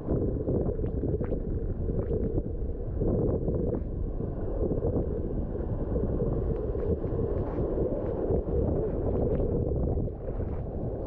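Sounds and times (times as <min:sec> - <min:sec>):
surf washing over reef: 0:00.0 - 0:11.0
wind buffeting microphone: 0:00.0 - 0:11.0.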